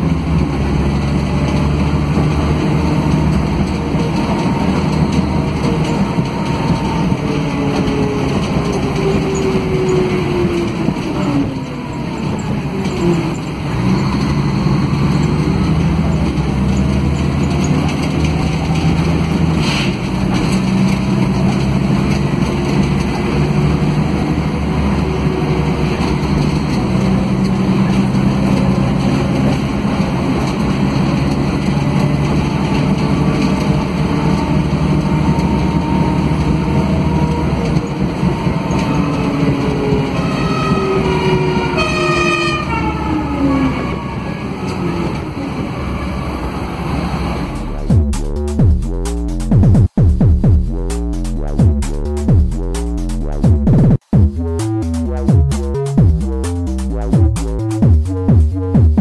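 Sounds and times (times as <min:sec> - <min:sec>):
bus diesel engine running: 0:00.0 - 0:59.0
road and body noise: 0:00.0 - 0:59.0.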